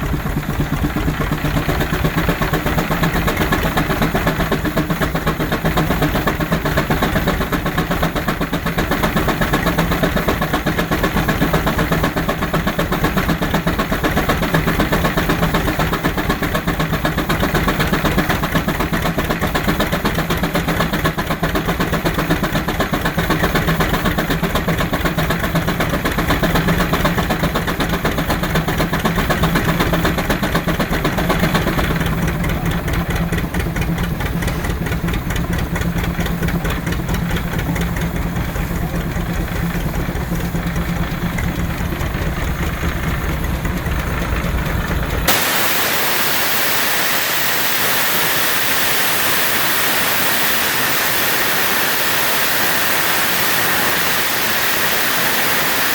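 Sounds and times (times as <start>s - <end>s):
steam engine running: 0.0s - 55.9s.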